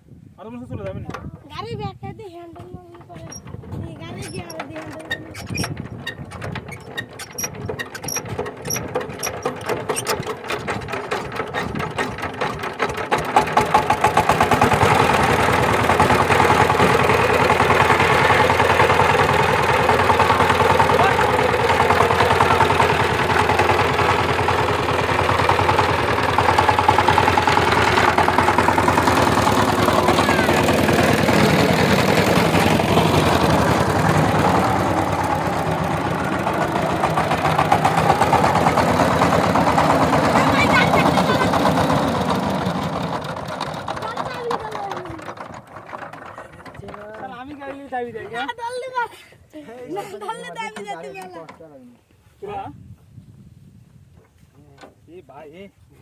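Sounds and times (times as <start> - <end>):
diesel engine starting and running: 2.5 - 47.5.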